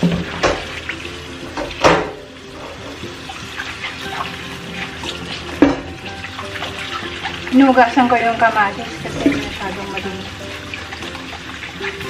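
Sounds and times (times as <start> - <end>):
kitchen faucet running: 0.0 - 12.0
water splashes: 0.0 - 12.0.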